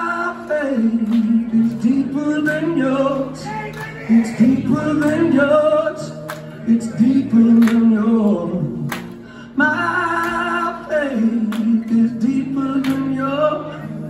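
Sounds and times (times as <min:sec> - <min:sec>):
man singing: 0:00.0 - 0:14.0.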